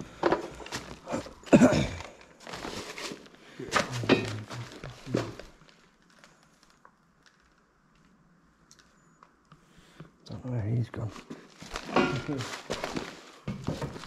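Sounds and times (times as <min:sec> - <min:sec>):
footsteps over debris: 0:00.0 - 0:08.2, 0:10.9 - 0:14.0.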